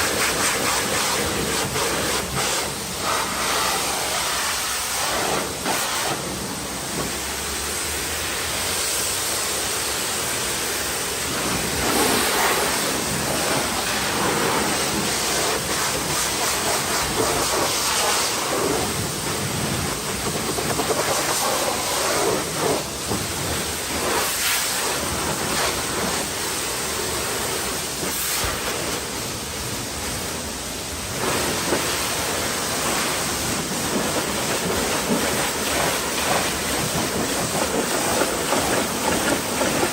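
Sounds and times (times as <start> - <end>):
pressure washer spraying car: 0.0 - 39.9.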